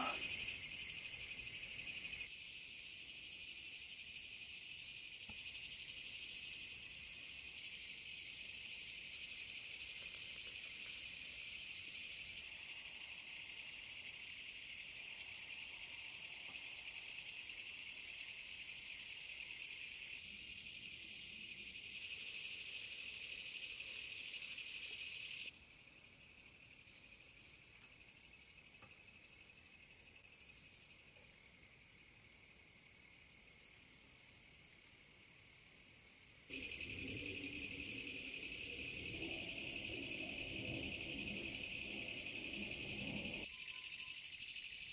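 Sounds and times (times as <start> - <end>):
insects chirring: 0.0 - 44.9
pulsed cricket chirps: 0.0 - 44.9.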